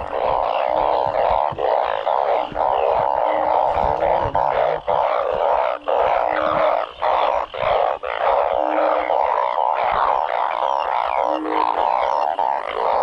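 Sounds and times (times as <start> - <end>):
frog chorus: 0.0 - 13.0
low single frog calls: 0.0 - 13.0.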